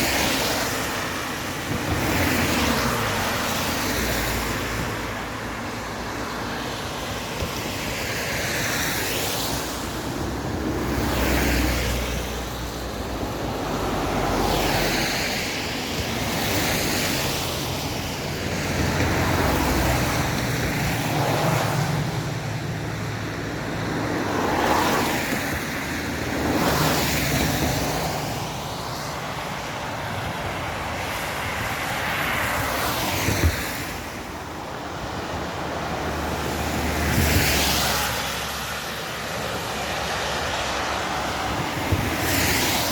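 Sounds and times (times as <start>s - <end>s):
tyres hissing on wet road: 0.0s - 42.9s.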